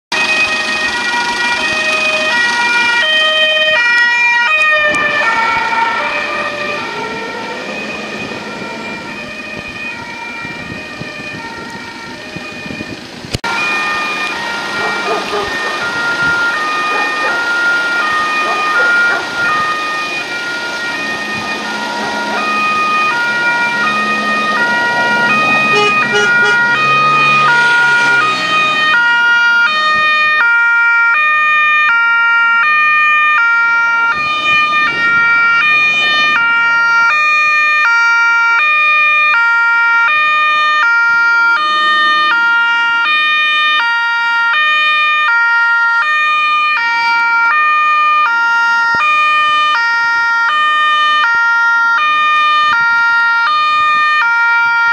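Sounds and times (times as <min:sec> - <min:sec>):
traffic noise: 0:00.1 - 0:54.9
two-tone police sirens: 0:00.1 - 0:54.9.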